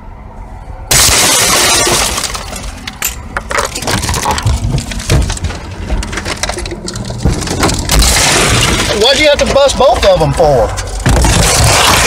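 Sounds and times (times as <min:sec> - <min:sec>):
car window glass shattering: 0:00.9 - 0:09.7, 0:10.9 - 0:12.0.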